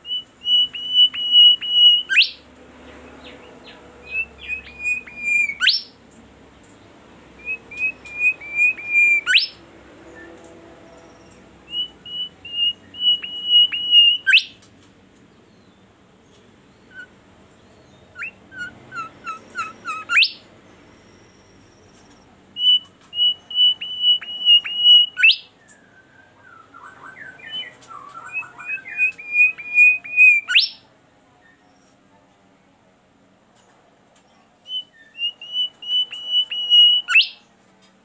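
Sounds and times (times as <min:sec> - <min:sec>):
songbird singing: 0:00.0 - 0:32.0, 0:33.6 - 0:38.0.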